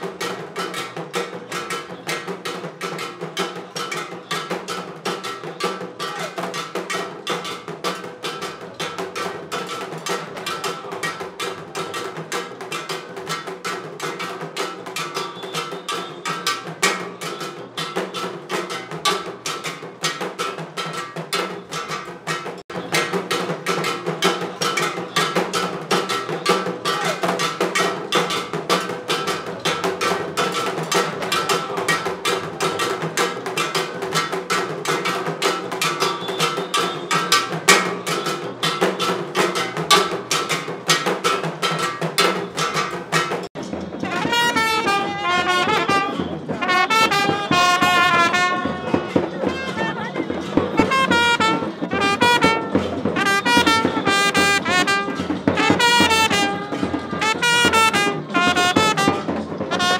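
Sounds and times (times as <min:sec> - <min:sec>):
wooden drums struck with sticks: 0:00.0 - 0:59.9.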